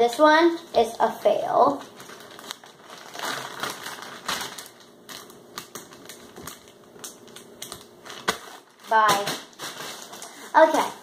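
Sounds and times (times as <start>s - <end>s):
plastic bag crinkling: 1.6s - 11.0s.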